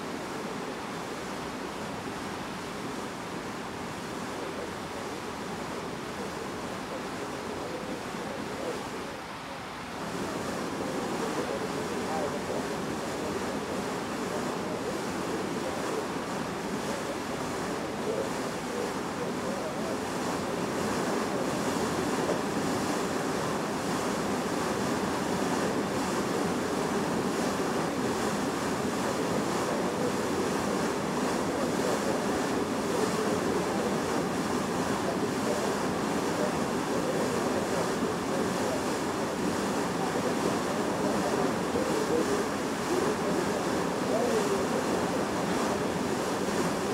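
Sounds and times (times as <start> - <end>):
ship bow wave rushing and splashing: 0.0 - 46.9.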